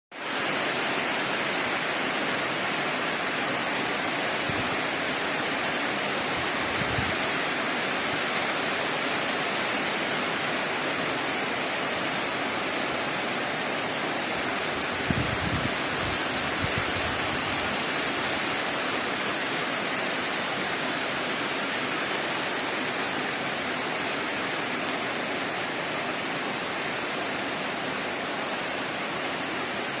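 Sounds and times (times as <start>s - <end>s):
heavy rain: 0.1s - 30.0s.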